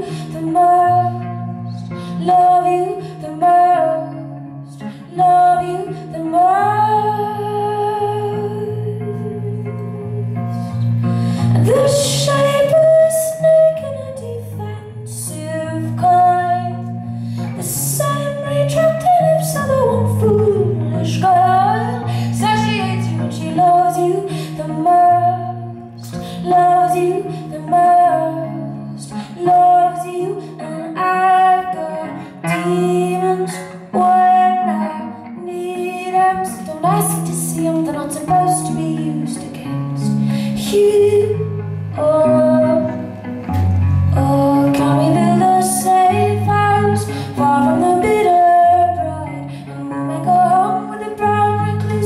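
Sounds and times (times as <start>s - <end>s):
plucked guitar: 0.0s - 52.0s
woman singing: 0.0s - 52.0s.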